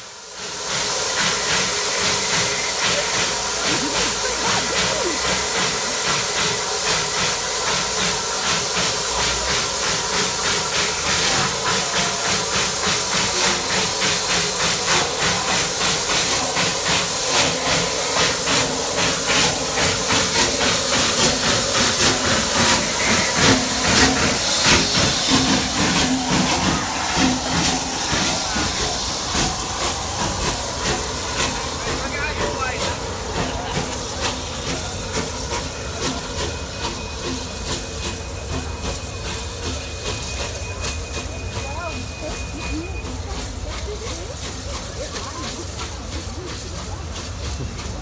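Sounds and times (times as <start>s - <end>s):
steam hissing from locomotive: 0.0s - 48.0s.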